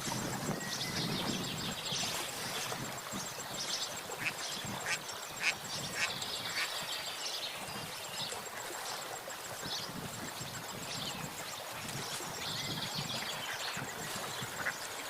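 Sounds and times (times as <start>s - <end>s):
birds chirping and twittering: 0.0s - 9.0s, 9.6s - 15.0s.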